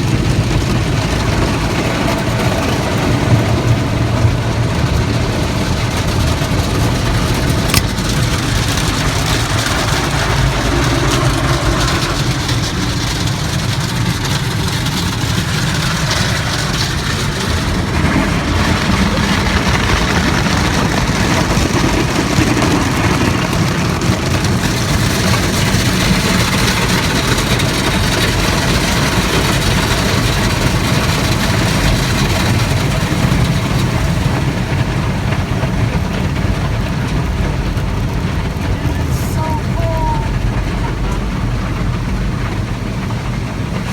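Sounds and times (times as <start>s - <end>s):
low machine rumble: 0.0s - 43.9s.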